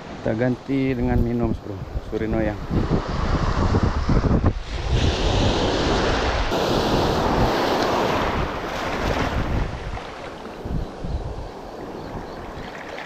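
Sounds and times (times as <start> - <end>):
wind buffeting microphone: 0.9 - 13.0
sea surf washing in: 1.6 - 13.0.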